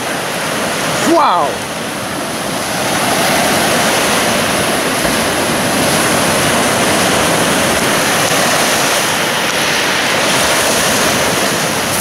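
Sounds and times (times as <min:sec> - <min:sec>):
sea waves breaking over rocks: 0:00.0 - 0:12.0.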